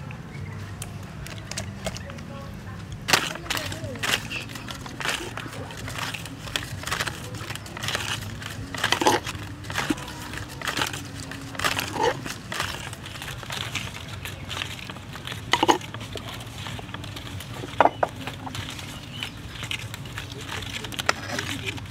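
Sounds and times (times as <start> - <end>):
wet squishing and rustling: 2.9 - 21.9.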